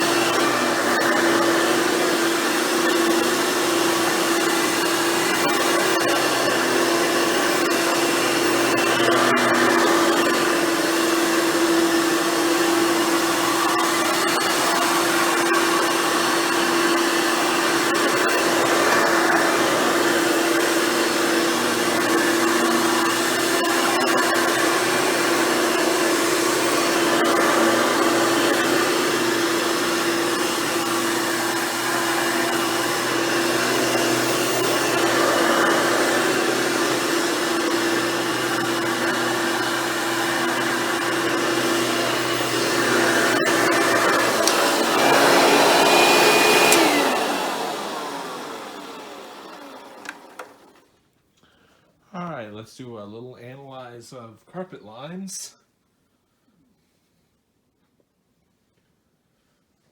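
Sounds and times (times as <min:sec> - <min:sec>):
upright vacuum cleaner running: 0:00.0 - 0:50.9.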